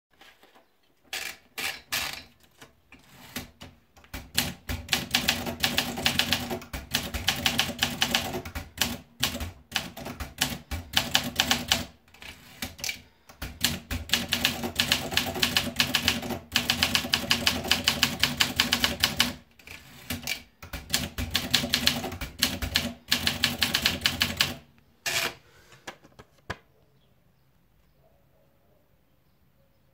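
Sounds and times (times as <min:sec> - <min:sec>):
typewriter typing: 0:01.1 - 0:25.4.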